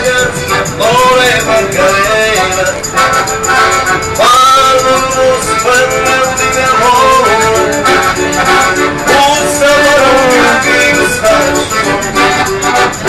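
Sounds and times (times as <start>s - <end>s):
piano accordion melody: 0.0s - 13.0s.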